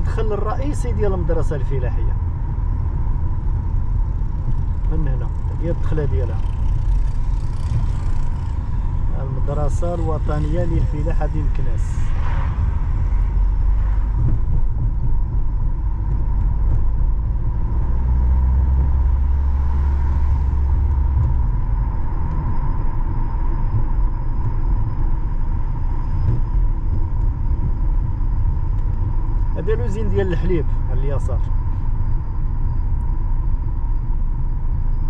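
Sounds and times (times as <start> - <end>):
car road and engine rumble: 0.0 - 35.0
faint steady whine: 0.0 - 35.0.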